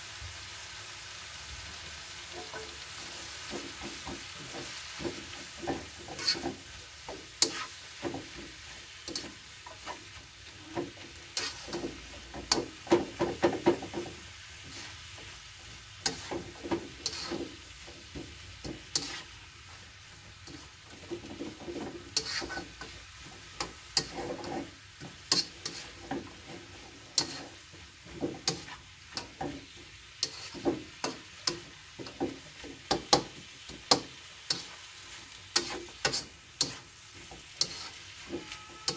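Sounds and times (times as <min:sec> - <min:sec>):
soft frying sizzle: 0:00.0 - 0:38.9
spatula scraping and knocking wok: 0:00.4 - 0:38.9.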